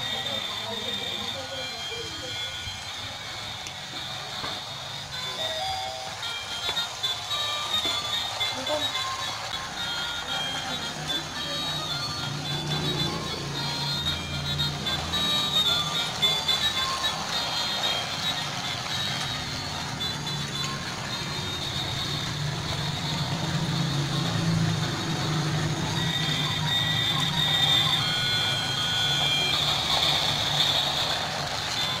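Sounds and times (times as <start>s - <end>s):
toy train motor whirring: 0.0s - 32.0s.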